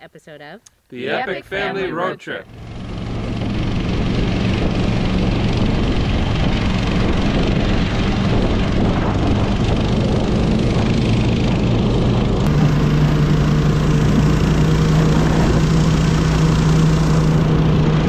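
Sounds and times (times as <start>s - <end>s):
snow machine engine running: 1.0s - 18.0s
constant rushing noise: 2.4s - 18.0s.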